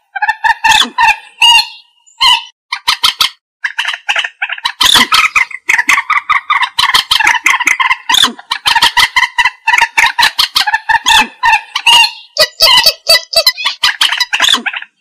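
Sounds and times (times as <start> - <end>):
moorhen clucking calls: 0.0 - 15.0.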